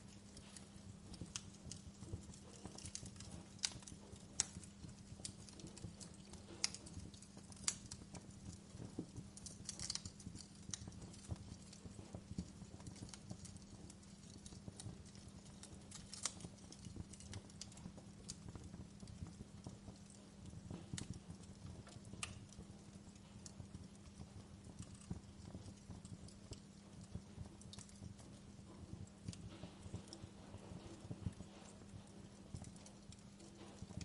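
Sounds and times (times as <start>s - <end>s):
steady low hum: 0.0s - 34.0s
wood fire crackling and popping: 0.0s - 34.0s.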